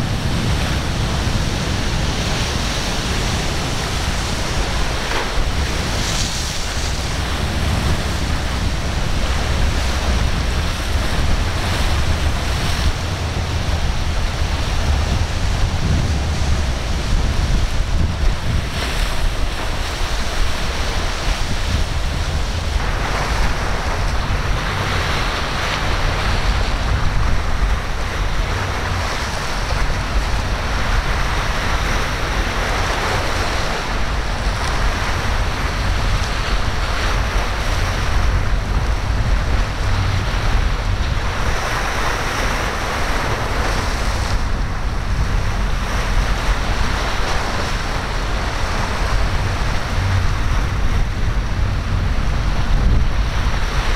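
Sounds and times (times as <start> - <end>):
waves breaking: 0.0 - 53.9
wind buffeting microphone: 0.0 - 53.9.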